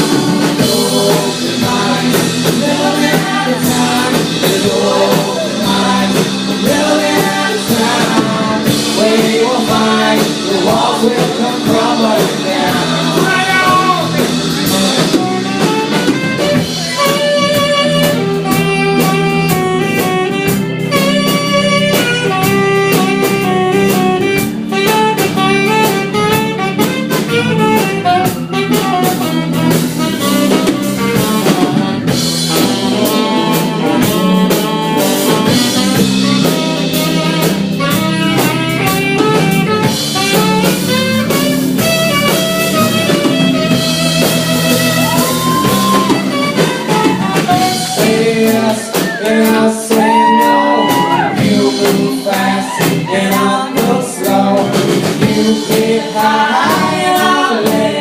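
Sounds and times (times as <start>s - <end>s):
rock band instrumental: 0.0s - 58.0s.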